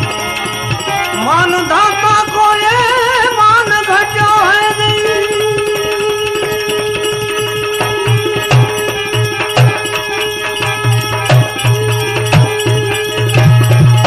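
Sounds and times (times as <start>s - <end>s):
devotional song melody: 0.0s - 14.0s
hand drum beat: 2.7s - 14.0s.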